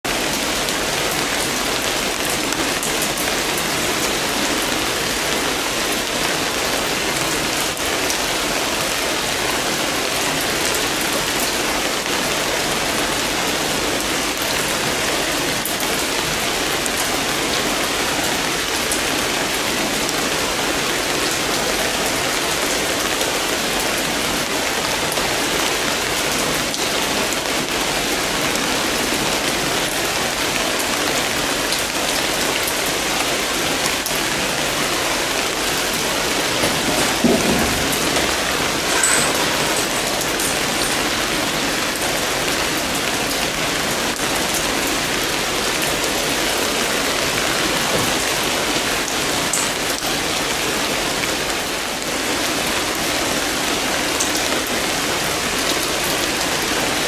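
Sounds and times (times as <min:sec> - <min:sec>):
raindrops ticking on surfaces: 0:00.1 - 0:57.0
steady rain hiss: 0:00.1 - 0:57.0.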